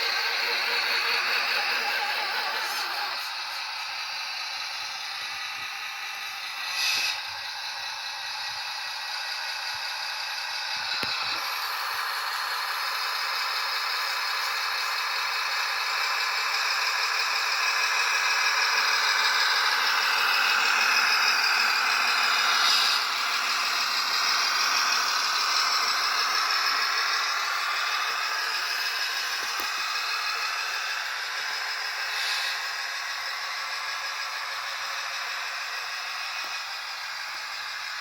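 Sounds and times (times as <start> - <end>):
toy truck motor whining: 0.0 - 38.0.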